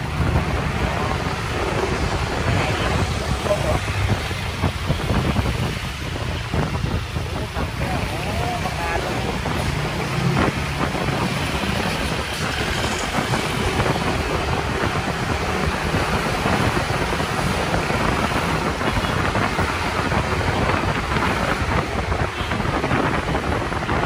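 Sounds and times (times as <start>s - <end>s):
traffic noise: 0.0s - 24.0s
wind rush on microphone: 0.0s - 24.0s.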